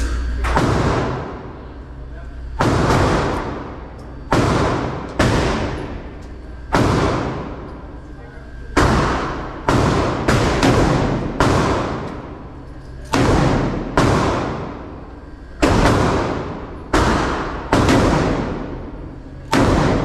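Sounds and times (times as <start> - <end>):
gunshots echoing indoors: 0.0 - 20.0.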